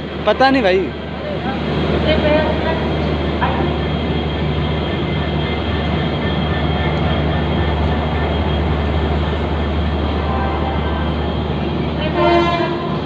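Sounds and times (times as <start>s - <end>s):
station background noise: 0.0s - 13.0s
train humming at station: 0.0s - 13.0s.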